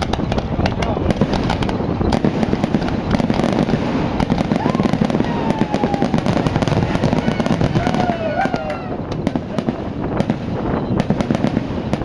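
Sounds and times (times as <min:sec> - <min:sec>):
fireworks bangs and crackling: 0:00.0 - 0:12.0
whistling firework: 0:00.0 - 0:12.0.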